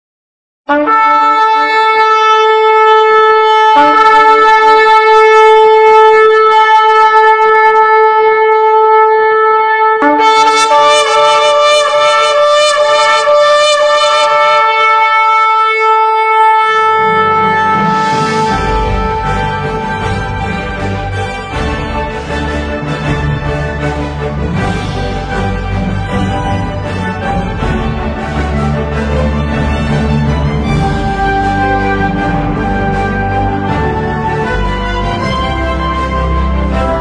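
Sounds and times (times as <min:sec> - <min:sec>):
lower instruments: 0:00.7 - 0:37.0
sustained horn notes: 0:00.7 - 0:37.0.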